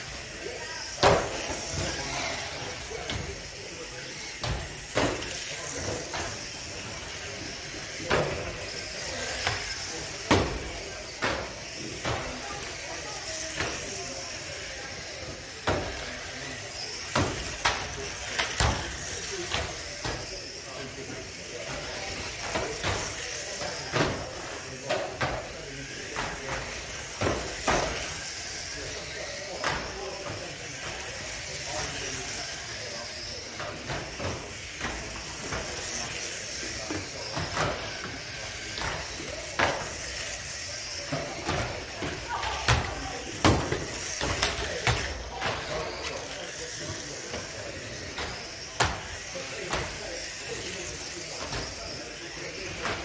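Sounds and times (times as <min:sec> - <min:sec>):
toy cars high whine: 0:00.0 - 0:53.0.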